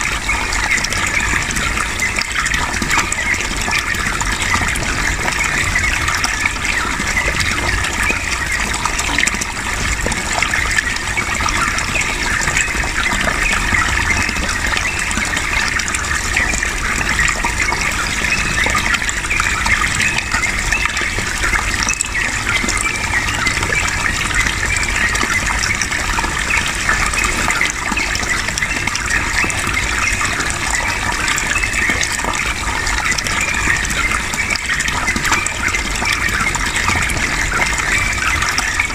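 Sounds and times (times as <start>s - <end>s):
running water gushing: 0.0s - 38.9s.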